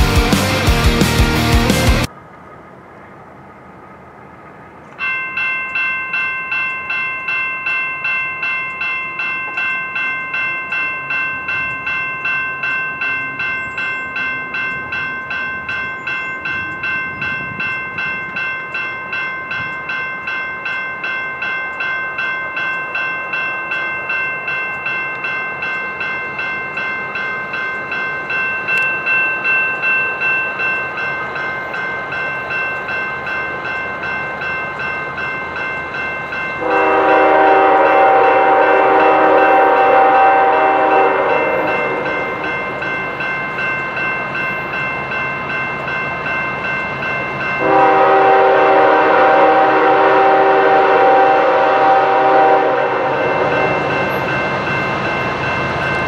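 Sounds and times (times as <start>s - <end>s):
freight train rumbling: 0.0s - 56.0s
railway crossing bell ringing: 4.6s - 56.0s.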